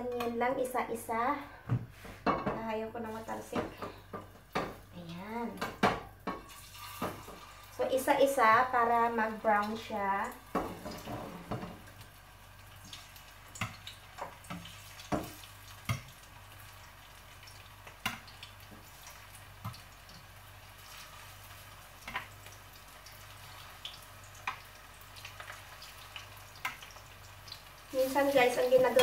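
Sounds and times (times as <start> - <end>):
meat sizzling in frying pan: 5.7 - 29.0.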